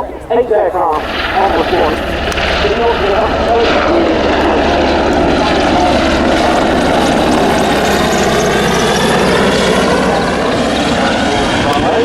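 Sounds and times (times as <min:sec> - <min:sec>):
helicopter flying: 0:00.0 - 0:12.0.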